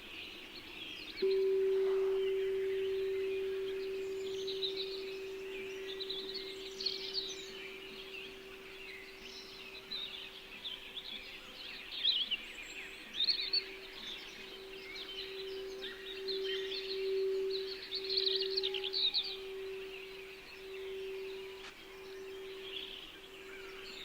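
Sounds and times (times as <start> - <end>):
singing bowl tone: 0.0 - 24.0
small birds chirping: 0.0 - 24.0.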